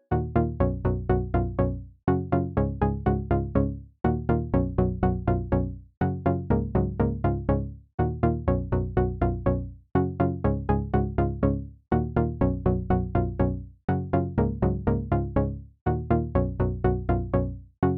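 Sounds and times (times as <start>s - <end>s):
synthesizer plucked notes pattern: 0.0s - 17.9s.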